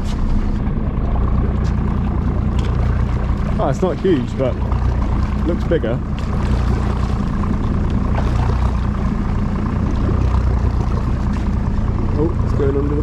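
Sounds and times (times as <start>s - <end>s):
boat engine idling: 0.0s - 13.0s
water noise: 0.0s - 13.0s
wind: 0.0s - 13.0s.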